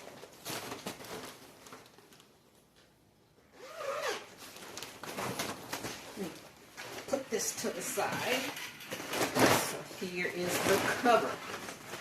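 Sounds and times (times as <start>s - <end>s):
plastic parts rustling and scraping: 0.0s - 2.8s, 4.3s - 12.0s.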